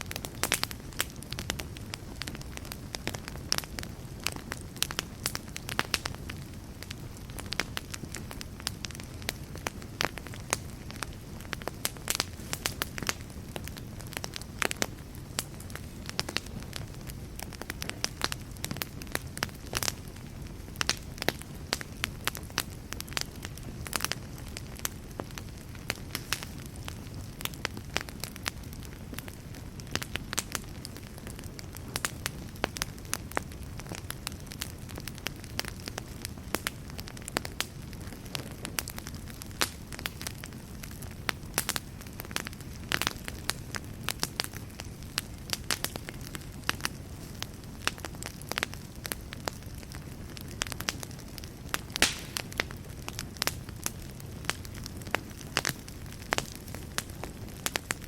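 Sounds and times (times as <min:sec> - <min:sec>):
fire crackling and popping: 0:00.0 - 0:58.0
low rumble of flame: 0:00.0 - 0:58.0.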